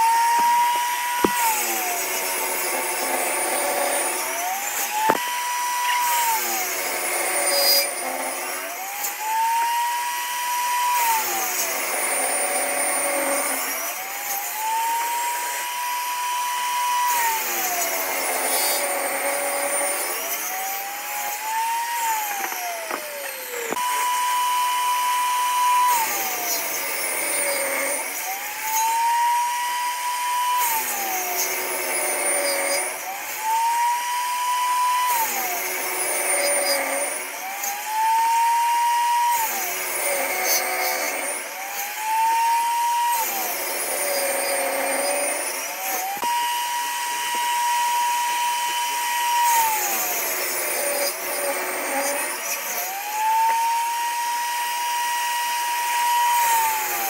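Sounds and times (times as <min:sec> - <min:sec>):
power tool motor cutting wood: 0:00.0 - 0:57.0.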